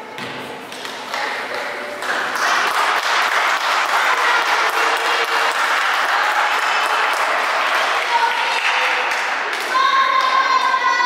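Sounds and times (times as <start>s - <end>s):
crowd applauding: 1.1s - 10.4s.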